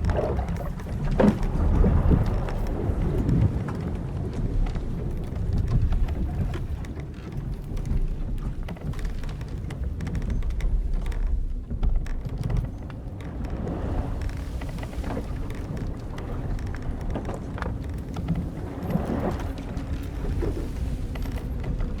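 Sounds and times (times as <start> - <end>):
ship timbers and rigging creaking: 0.0 - 22.0
wind and waves: 0.0 - 22.0.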